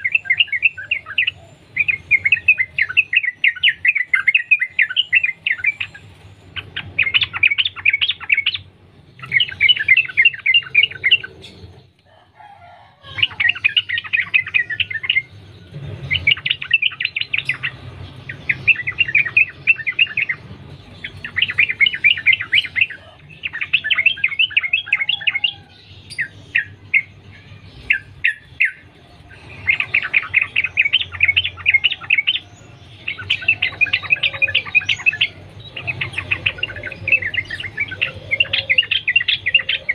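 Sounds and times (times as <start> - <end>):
bulbul singing chattering phrases: 0.0 - 12.0, 13.1 - 39.9.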